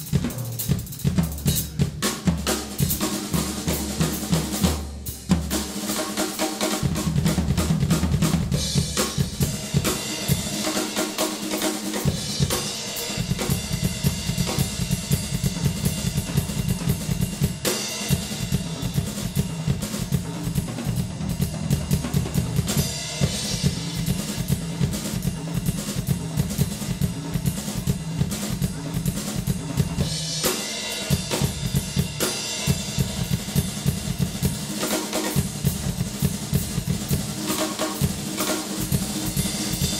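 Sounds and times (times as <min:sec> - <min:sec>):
acoustic drum kit: 0:00.0 - 0:39.9.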